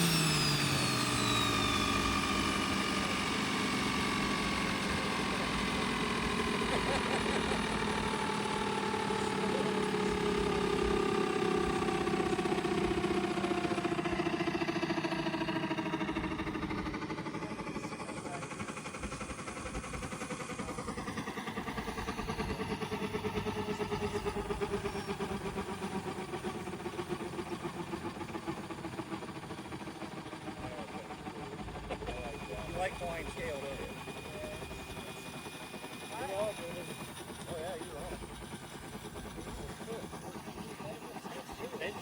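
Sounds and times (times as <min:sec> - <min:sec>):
helicopter rotor drone: 0:00.0 - 0:42.0
helicopter turbine whine: 0:00.0 - 0:42.0.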